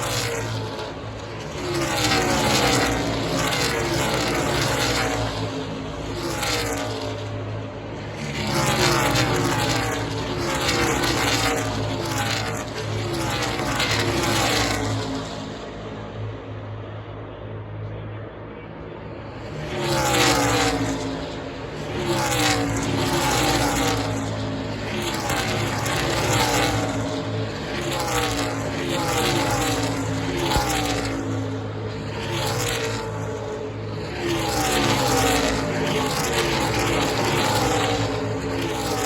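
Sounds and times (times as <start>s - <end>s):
race cars passing at speed: 0.0s - 39.0s.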